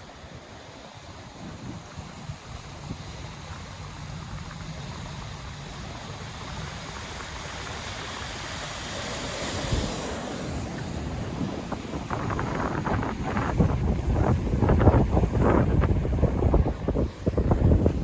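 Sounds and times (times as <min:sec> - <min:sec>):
wind buffeting microphone: 0:00.0 - 0:18.0
ocean surf breaking: 0:03.6 - 0:18.0.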